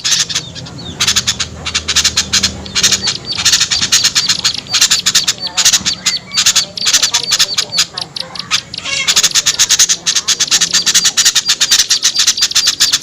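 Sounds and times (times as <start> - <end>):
recorded small birds scolding: 0.0 - 13.0.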